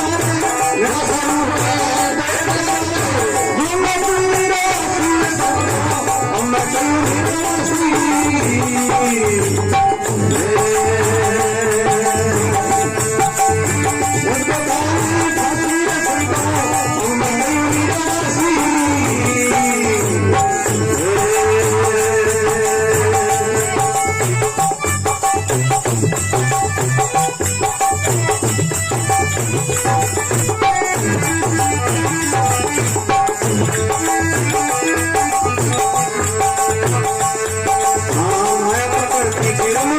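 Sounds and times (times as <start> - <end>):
devotional folk music: 0.0 - 39.9
jingling rattle percussion: 0.0 - 39.9
steady drum beat: 0.0 - 39.9.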